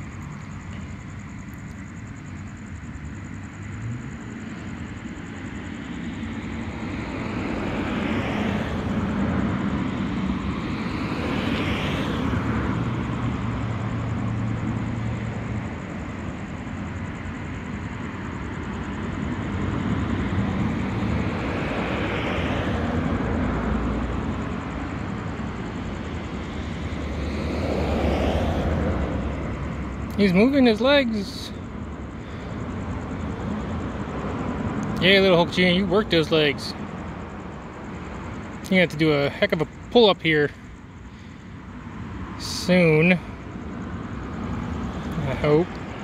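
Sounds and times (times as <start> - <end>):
distant vehicles passing: 0.0 - 46.0.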